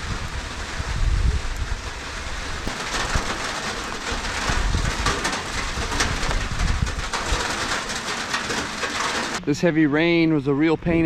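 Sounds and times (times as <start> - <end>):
heavy rain drops hitting: 0.0 - 9.4
wind rumbling on microphone: 0.0 - 9.4.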